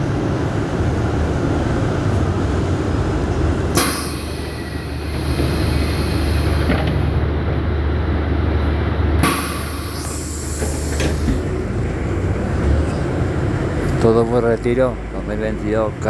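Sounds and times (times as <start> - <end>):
bus diesel engine rumbling: 0.0 - 16.0.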